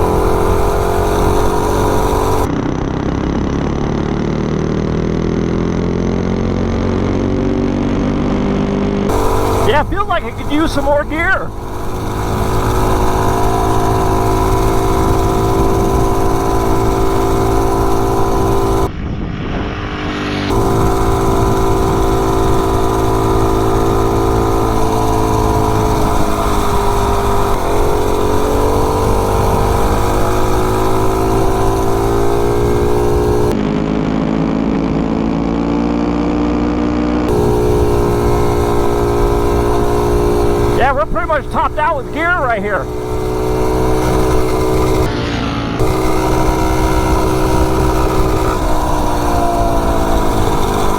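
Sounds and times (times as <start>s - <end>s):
mini bike engine at full throttle: 0.0s - 50.9s.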